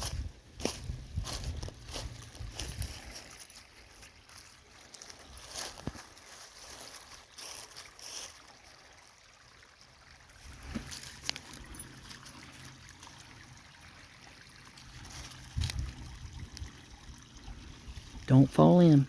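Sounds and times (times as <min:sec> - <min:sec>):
creek babbling over rocks: 0:00.0 - 0:19.0.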